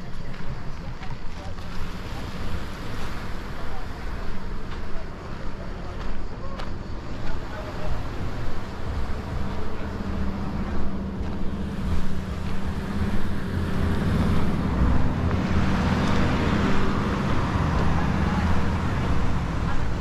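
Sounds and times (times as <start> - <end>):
motor engine running: 0.0 - 20.0
wind buffeting microphone: 0.0 - 20.0.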